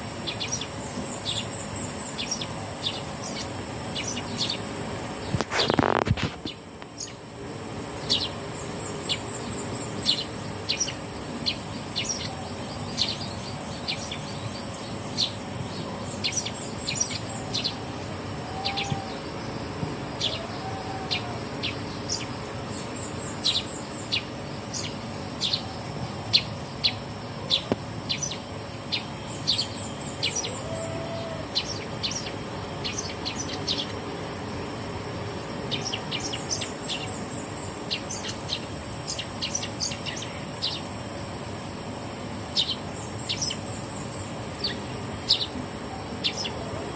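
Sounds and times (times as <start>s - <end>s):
insect drone: 0.0s - 46.9s
birds chirping: 0.2s - 41.2s, 42.4s - 46.9s.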